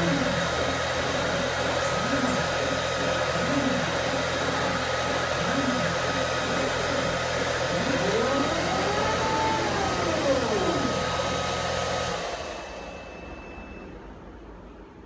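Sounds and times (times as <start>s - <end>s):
motor whine: 0.0s - 14.0s.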